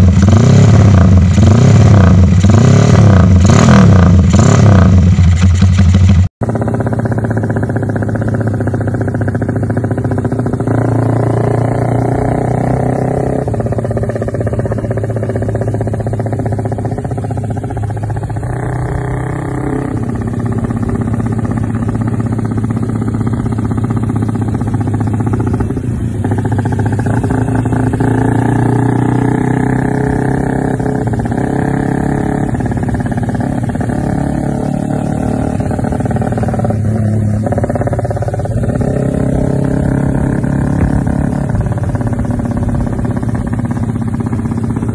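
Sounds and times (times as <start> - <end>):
motorcycle engine riding: 0.0 - 44.9
parked motorcycle exhaust burst: 0.0 - 44.9.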